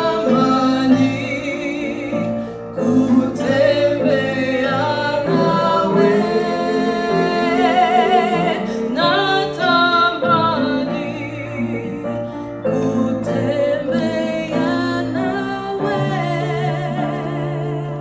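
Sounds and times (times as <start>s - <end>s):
singer holding long notes: 0.0s - 18.0s.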